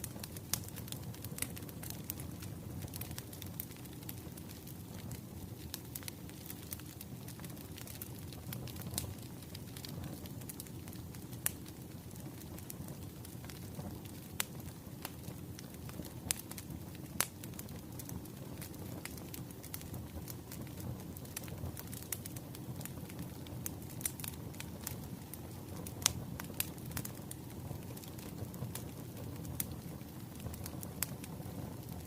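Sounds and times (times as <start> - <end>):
burning logs popping and crackling: 0.0 - 32.0
hiss of flames: 0.0 - 32.0.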